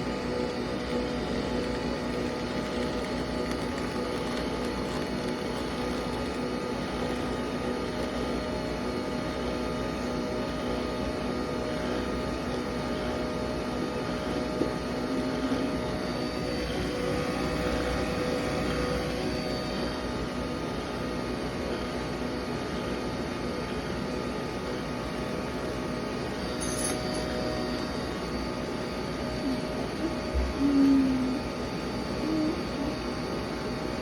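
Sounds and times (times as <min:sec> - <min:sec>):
coffee machine pump hum: 0:00.0 - 0:34.0.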